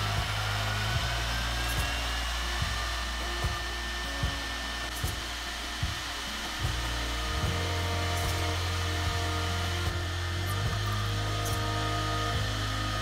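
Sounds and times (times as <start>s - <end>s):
background music with steady beat: 0.0s - 13.0s
mortising machine motor whining: 0.0s - 13.0s.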